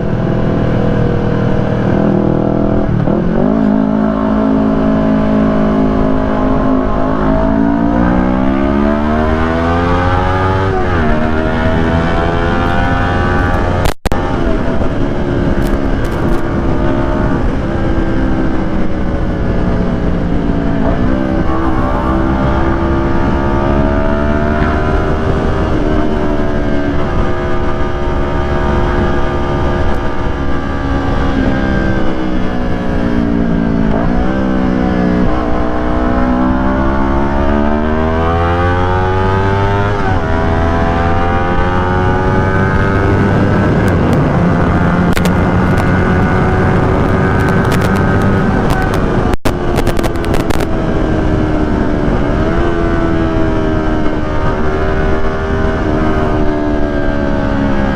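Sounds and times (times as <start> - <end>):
motorcycle engine accelerating: 0.0 - 57.9
wind and road noise: 0.0 - 57.9.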